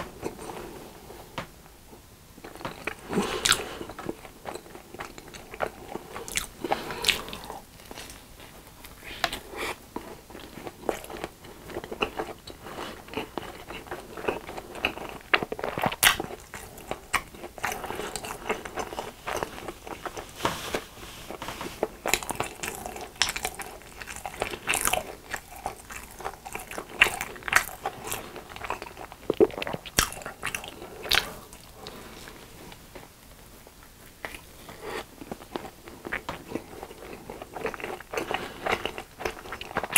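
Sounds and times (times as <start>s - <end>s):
person crunching and chewing food: 2.4s - 39.9s.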